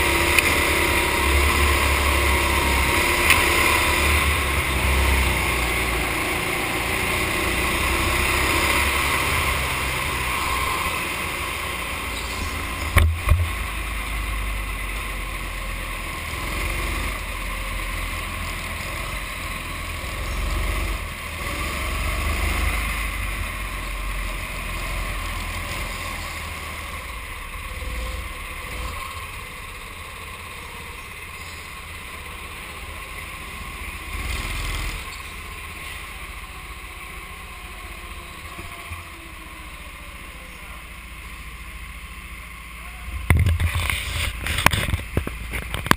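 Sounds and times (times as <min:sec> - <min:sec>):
kart engine and tyre noise: 0:00.0 - 0:45.9.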